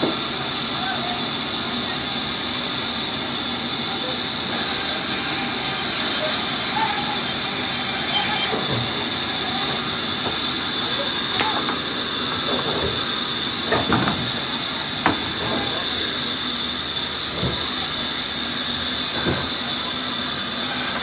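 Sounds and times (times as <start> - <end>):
band saw running: 1.6 - 21.0.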